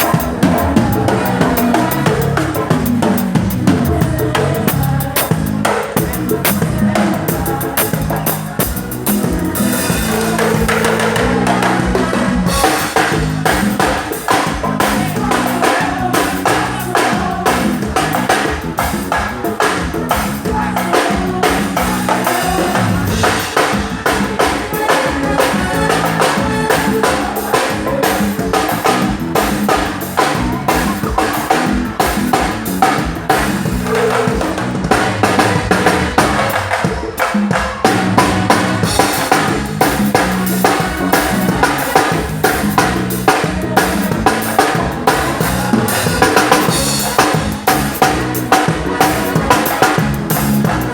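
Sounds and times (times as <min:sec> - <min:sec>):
drum kit beating fast rhythm: 0:00.0 - 0:50.9
live band playing: 0:00.0 - 0:50.9.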